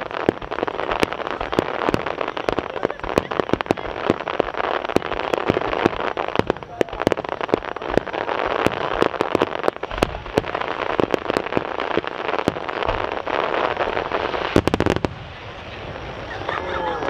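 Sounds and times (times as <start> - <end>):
firework pops: 0.0 - 15.4
deep firework booms: 0.0 - 17.0
fireworks crackling: 0.0 - 17.0.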